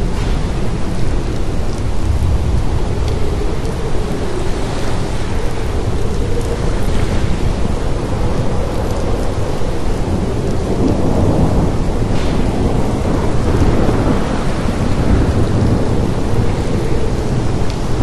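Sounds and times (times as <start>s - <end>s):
heavy low rumble: 0.0s - 18.0s
steady rain hiss: 0.0s - 18.0s.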